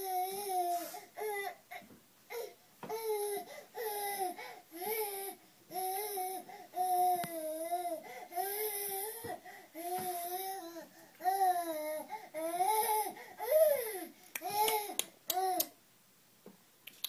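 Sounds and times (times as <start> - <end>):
baby crying: 0.0 - 1.6, 2.3 - 15.8.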